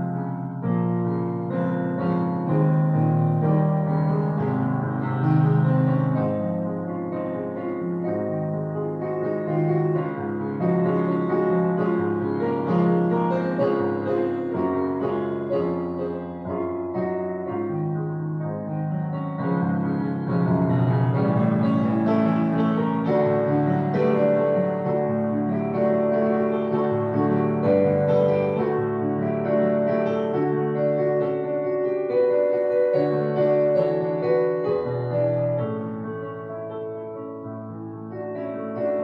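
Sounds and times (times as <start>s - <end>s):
slow solo piano music: 0.0s - 39.0s.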